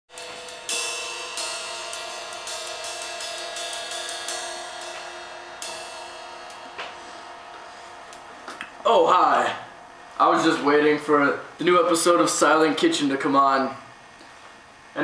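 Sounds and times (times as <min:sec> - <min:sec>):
cymbal strikes: 0:00.1 - 0:12.8
ringing cymbal wash: 0:00.1 - 0:13.8.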